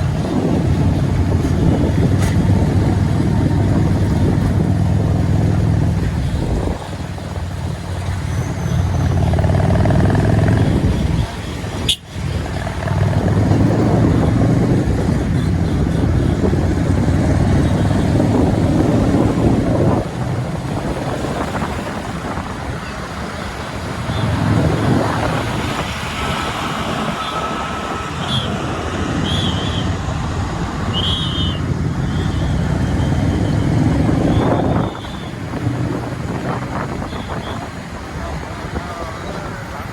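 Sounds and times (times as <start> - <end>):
motorcycle running: 0.0 - 39.9
road noise: 0.0 - 39.9.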